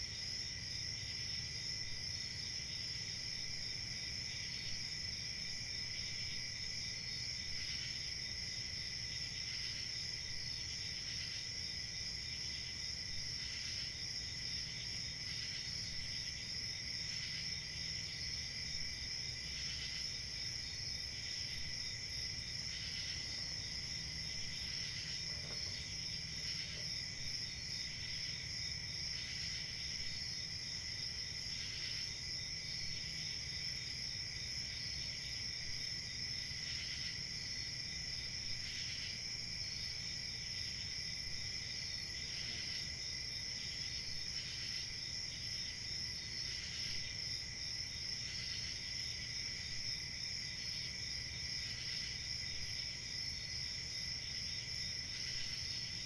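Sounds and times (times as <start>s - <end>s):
crickets chirping chorus: 0.0s - 56.0s.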